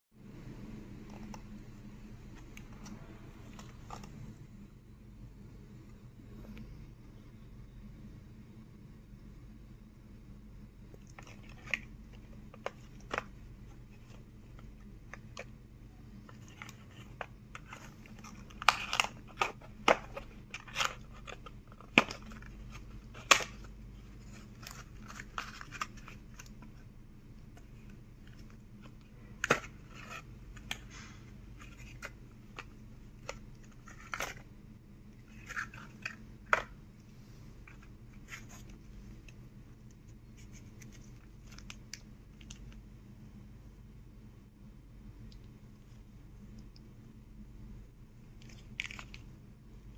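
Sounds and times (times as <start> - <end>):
low steady hum: 0.2 - 49.9.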